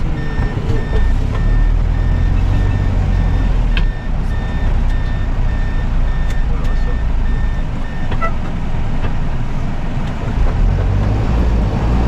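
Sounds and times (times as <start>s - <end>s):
engine rumble: 0.0s - 12.0s.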